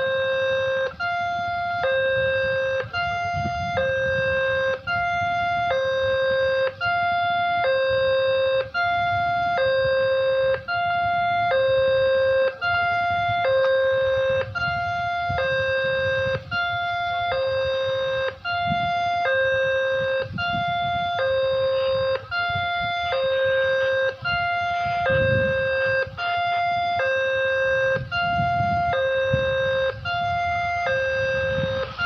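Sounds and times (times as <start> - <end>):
two-tone level-crossing siren: 0.0 - 32.0.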